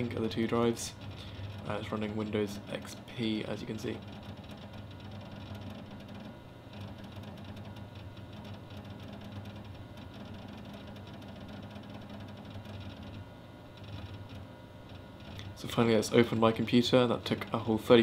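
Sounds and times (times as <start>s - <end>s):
hard drive clicking: 0.0s - 18.0s.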